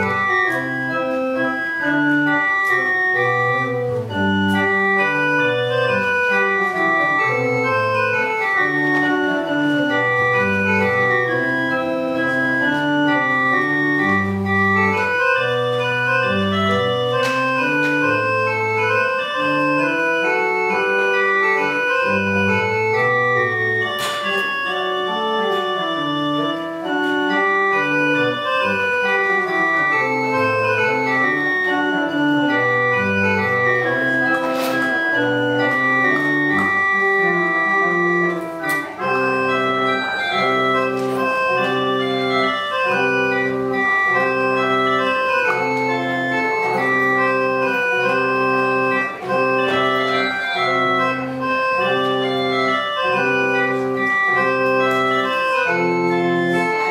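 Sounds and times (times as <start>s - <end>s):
church organ playing: 0.0s - 56.9s.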